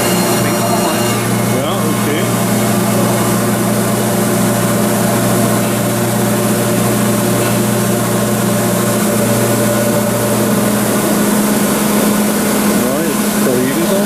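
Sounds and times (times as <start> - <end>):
milling machine humming: 0.0 - 14.0.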